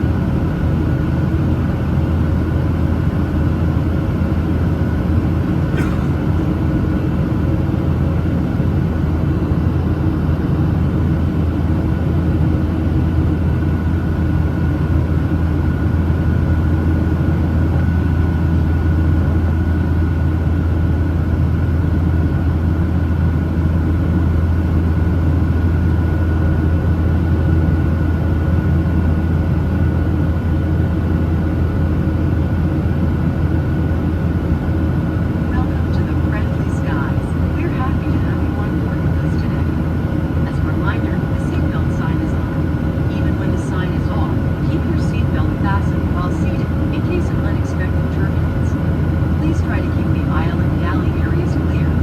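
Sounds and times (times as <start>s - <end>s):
airplane cabin engine rumble: 0.0s - 52.0s.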